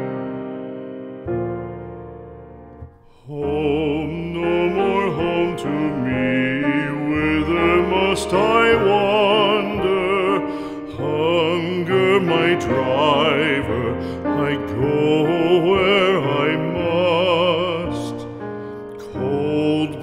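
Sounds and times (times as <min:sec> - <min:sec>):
piano chord: 0:00.0 - 0:20.0
operatic singing with piano: 0:02.8 - 0:20.0.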